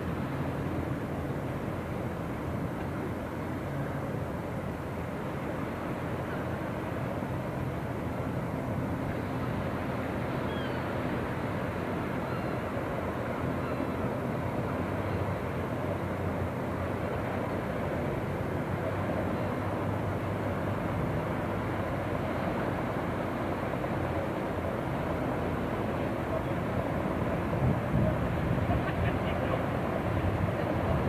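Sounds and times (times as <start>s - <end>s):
motor boat engine rumble: 0.0s - 31.0s.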